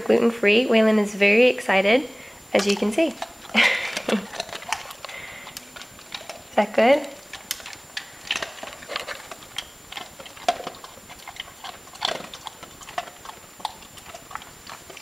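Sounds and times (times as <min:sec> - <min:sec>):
dog crunching a hard cookie: 0:02.6 - 0:15.0.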